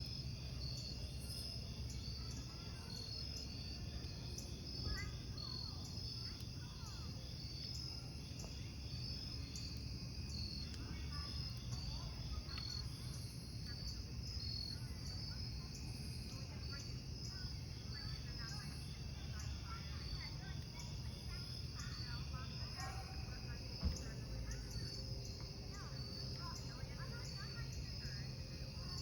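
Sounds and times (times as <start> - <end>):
campfire rushing and crackling: 0.0 - 29.0
crickets chirping: 0.0 - 29.0.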